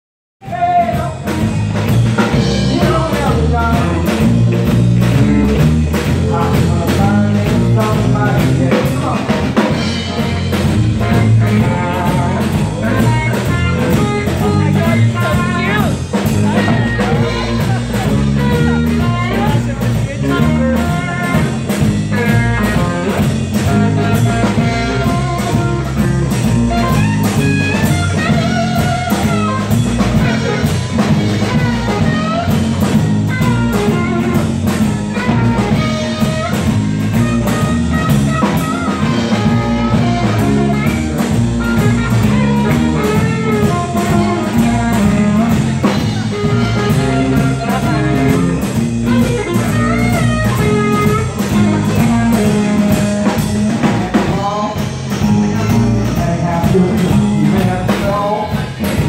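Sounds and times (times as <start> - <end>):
drum kit steady beat: 0.4 - 59.0
live blues band playing: 0.4 - 59.0.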